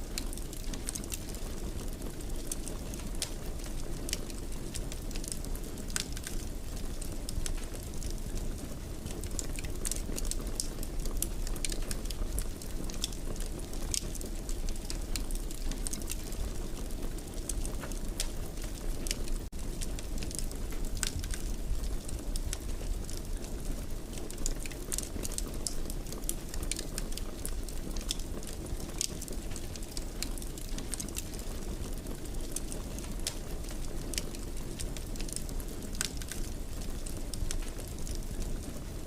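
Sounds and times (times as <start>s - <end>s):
fireplace fire crackling: 0.0s - 39.0s.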